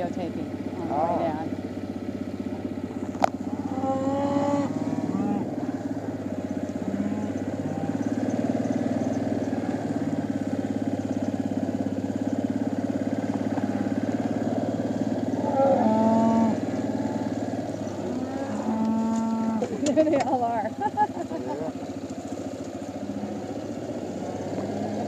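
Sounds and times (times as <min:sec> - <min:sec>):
engine humming: 0:00.0 - 0:25.0
cattle mooing: 0:00.7 - 0:01.5, 0:03.4 - 0:20.6, 0:21.6 - 0:25.0.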